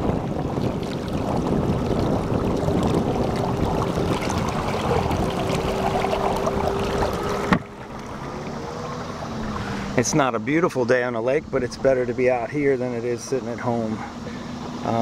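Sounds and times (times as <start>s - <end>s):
faint motor hum: 0.0s - 15.0s
water churning and splashing: 0.0s - 15.0s.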